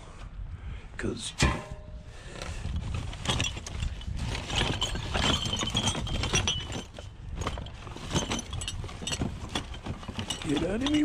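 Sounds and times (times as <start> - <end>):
metal frame clattering and scraping: 1.3 - 11.0.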